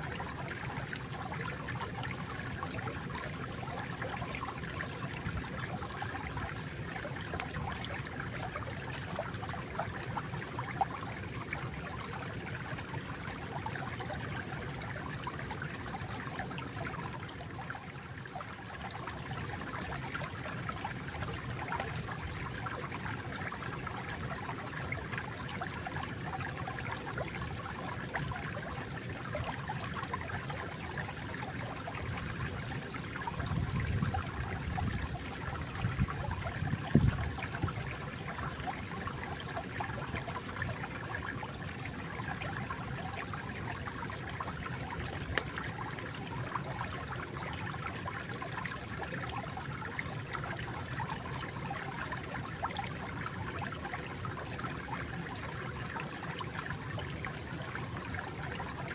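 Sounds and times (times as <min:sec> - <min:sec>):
water trickling and babbling: 0:00.0 - 0:58.9.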